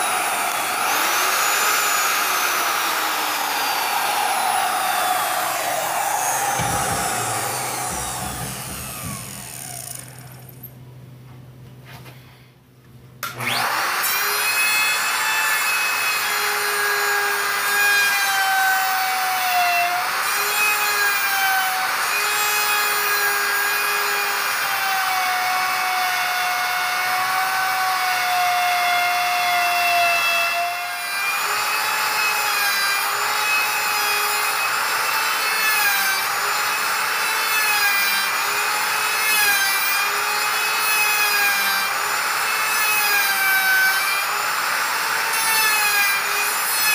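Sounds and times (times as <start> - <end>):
router bit cutting wood: 0.0 - 10.7, 13.2 - 46.9
router motor whine: 0.0 - 10.7, 13.2 - 46.9.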